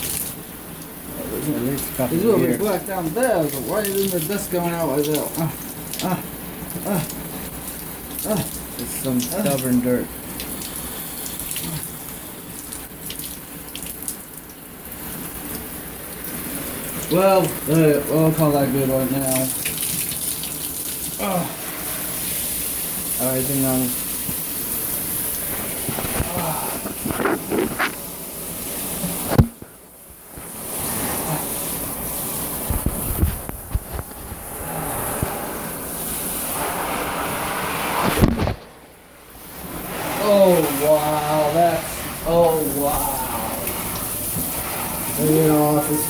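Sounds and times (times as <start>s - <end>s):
shower water running over sponge: 0.0s - 29.3s, 30.4s - 38.2s, 39.3s - 46.0s.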